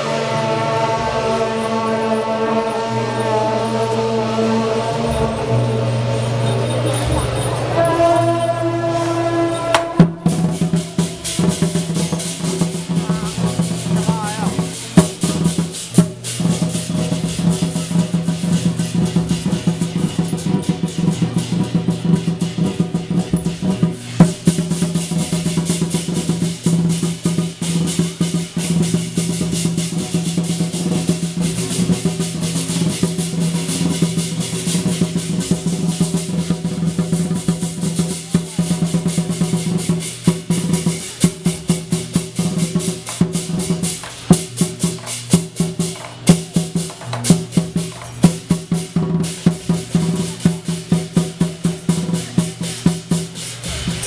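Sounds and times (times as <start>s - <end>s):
cymbals clashing: 0.0s - 54.0s
drums beating rapidly: 0.0s - 54.0s.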